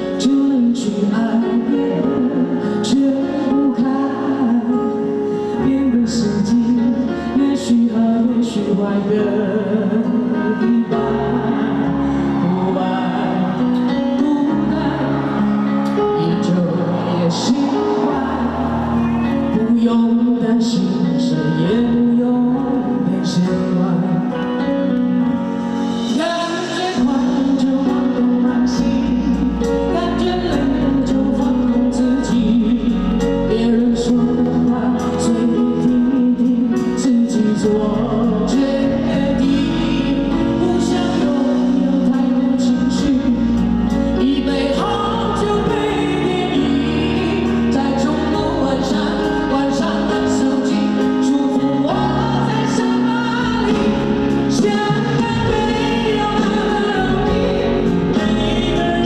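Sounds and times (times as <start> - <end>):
bass: 0.0 - 59.0
live band playing: 0.0 - 59.0
person singing: 0.0 - 59.0.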